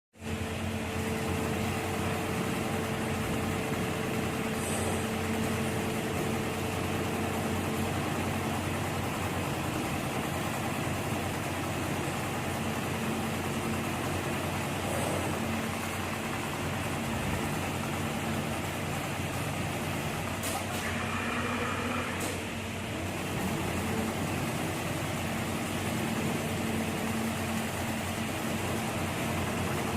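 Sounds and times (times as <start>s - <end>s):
sewing machine motor hum: 0.2s - 29.9s.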